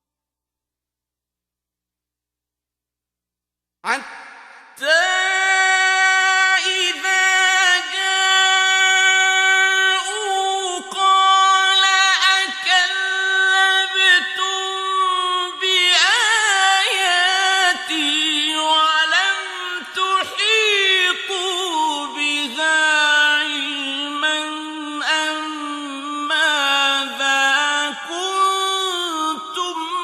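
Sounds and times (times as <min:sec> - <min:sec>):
man chanting melodically: 0:03.8 - 0:30.0.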